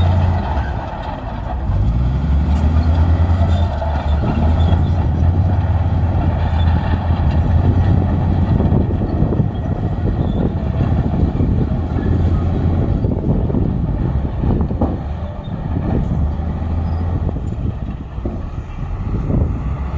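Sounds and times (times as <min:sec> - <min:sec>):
heavy diesel machinery engine drone: 0:00.0 - 0:19.9.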